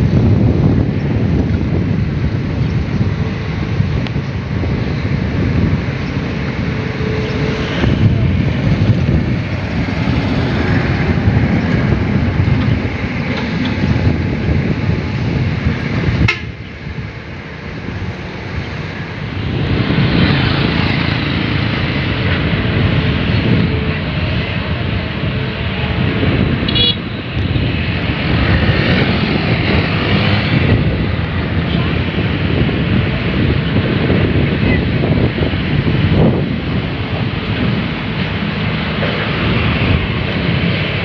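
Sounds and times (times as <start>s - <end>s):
heavy diesel machinery rumbling: 0.0s - 41.0s.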